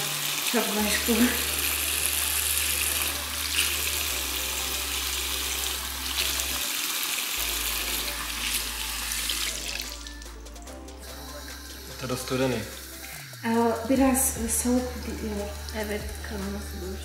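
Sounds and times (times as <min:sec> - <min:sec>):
water running from tap: 0:00.0 - 0:10.2, 0:11.1 - 0:17.0.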